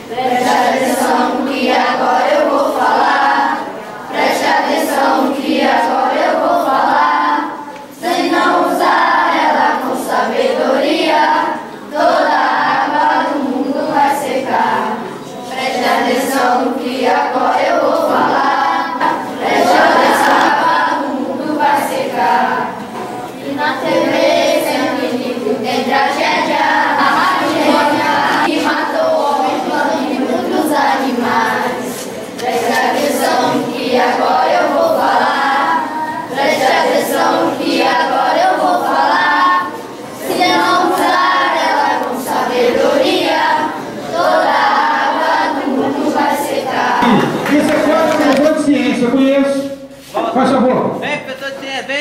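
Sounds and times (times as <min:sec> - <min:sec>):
children singing together: 0:00.0 - 0:48.3.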